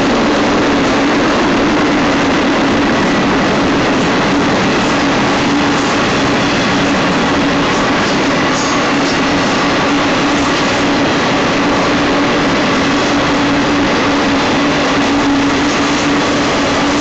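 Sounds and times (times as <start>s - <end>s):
freight train wheel and rail rumble: 0.0s - 17.0s.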